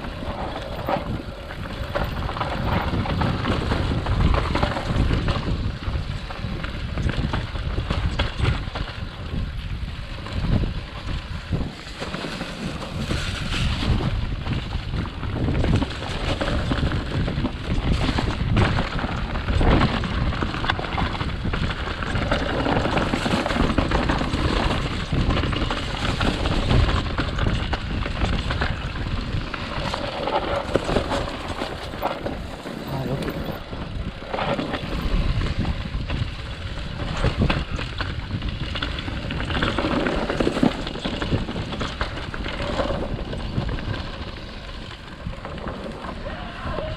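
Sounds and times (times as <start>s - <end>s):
bike rattling: 0.0s - 46.9s
wind buffeting microphone: 0.0s - 46.9s.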